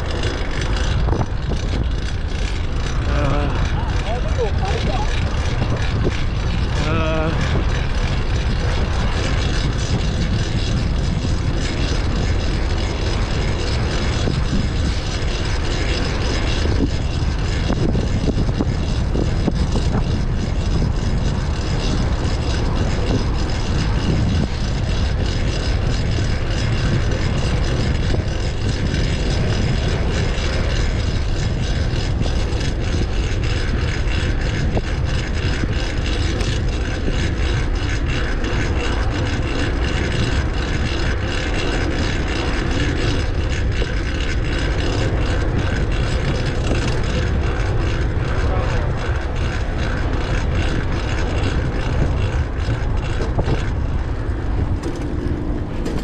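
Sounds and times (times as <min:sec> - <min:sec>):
faint road and drivetrain noise: 0:00.0 - 0:56.0
wind buffeting microphone: 0:00.0 - 0:56.0.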